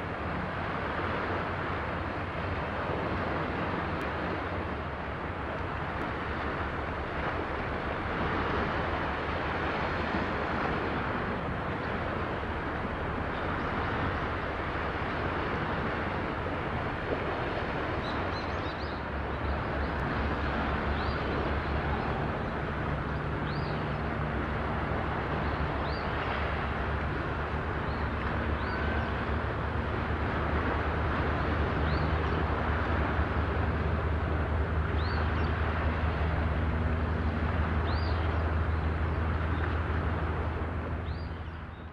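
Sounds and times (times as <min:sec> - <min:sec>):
constant rush of noise: 0:00.0 - 0:41.9
low hum: 0:03.9 - 0:41.9.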